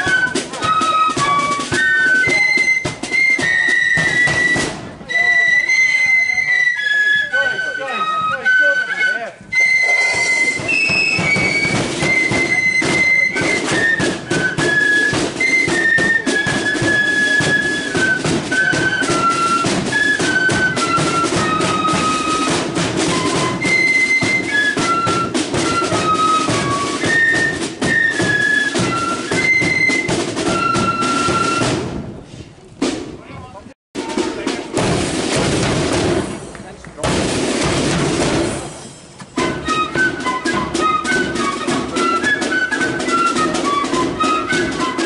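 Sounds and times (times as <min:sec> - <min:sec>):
snare and bass drums: 0:00.0 - 0:05.6, 0:09.4 - 0:45.0
flutes playing in unison: 0:00.0 - 0:32.0, 0:39.4 - 0:45.0.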